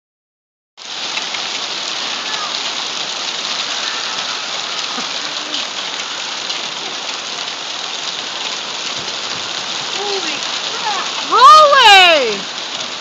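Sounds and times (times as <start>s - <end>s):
heavy rain on hard surfaces: 0.8s - 13.0s.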